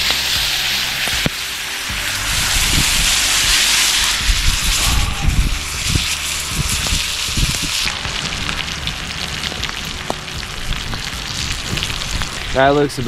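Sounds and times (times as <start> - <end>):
steak sizzling in a pan: 0.0 - 13.0
wood fire crackling: 0.0 - 13.0.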